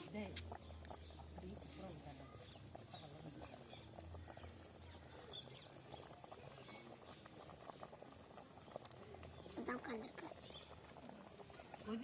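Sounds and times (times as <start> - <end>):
curry crackling in a pot: 0.0 - 12.0.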